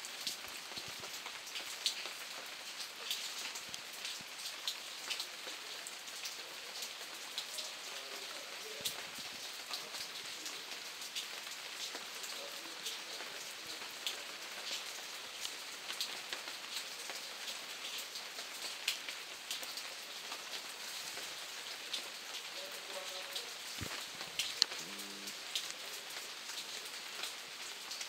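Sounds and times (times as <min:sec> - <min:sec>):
raindrops ticking close by: 0:00.0 - 0:28.0
steady rain hiss: 0:00.0 - 0:28.0.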